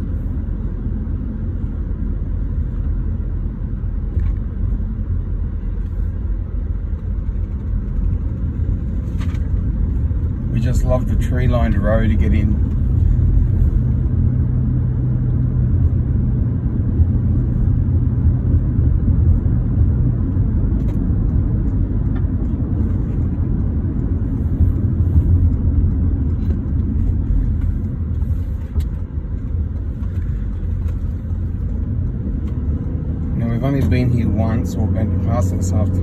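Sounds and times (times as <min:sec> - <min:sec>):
car engine rumble inside cabin: 0:00.0 - 0:36.0
tyre noise on road: 0:00.0 - 0:36.0.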